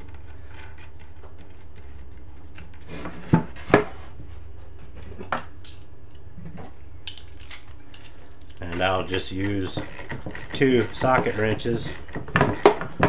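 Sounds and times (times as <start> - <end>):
wooden pieces knocking and rubbing: 0.0 - 13.0.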